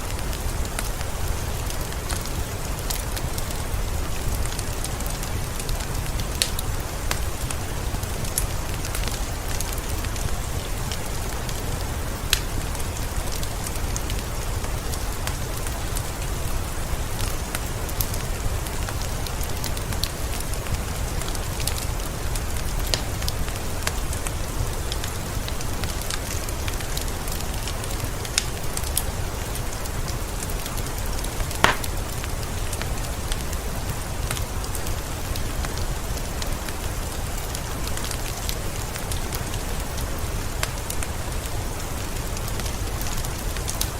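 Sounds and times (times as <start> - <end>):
steady rain falling: 0.0 - 43.9
wood fire crackling and popping: 0.1 - 21.8, 25.0 - 39.9.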